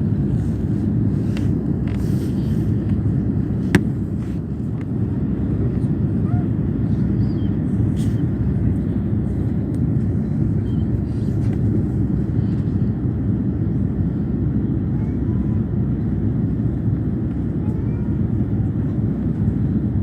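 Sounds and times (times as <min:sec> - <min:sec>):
distant jet airliner rumble: 0:00.0 - 0:20.0.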